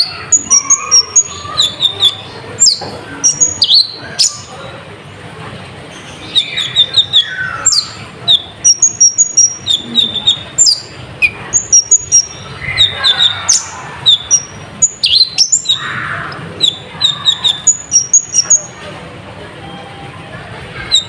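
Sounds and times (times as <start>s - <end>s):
sunbird singing chirps and trills: 0.0s - 4.7s, 5.9s - 18.8s.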